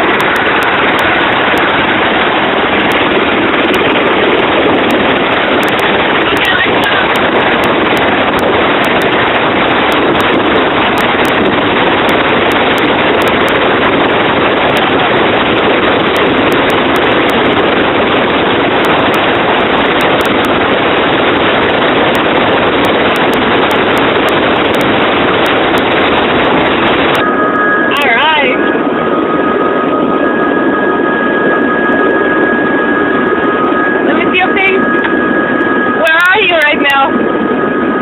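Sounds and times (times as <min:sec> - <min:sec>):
helicopter engine and rotor: 0:00.0 - 0:38.0.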